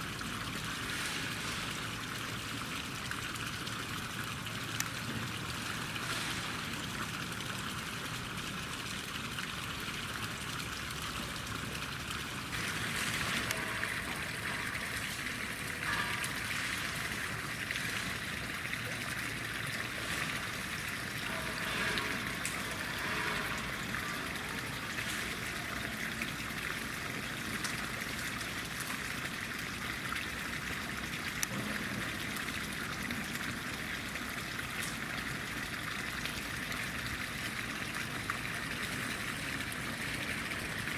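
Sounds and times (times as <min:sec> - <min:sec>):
trickling running water: 0:00.0 - 0:40.9.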